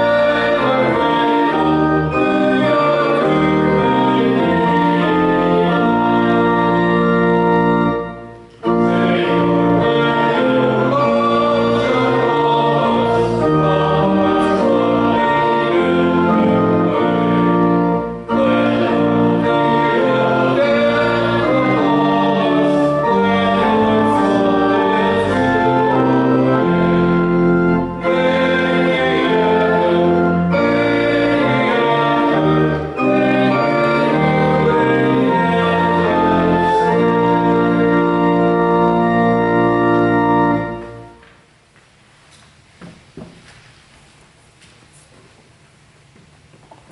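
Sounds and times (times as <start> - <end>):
congregation singing a hymn: 0.0 - 41.2
church organ: 0.0 - 41.8.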